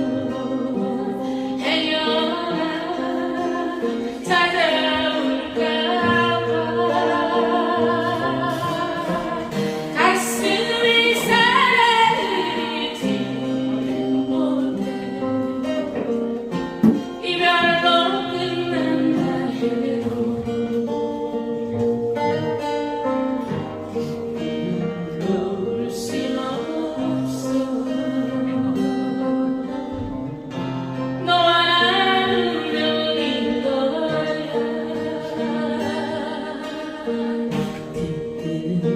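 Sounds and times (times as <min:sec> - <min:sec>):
guitar accompaniment: 0:00.0 - 0:38.9
person singing: 0:00.0 - 0:38.9.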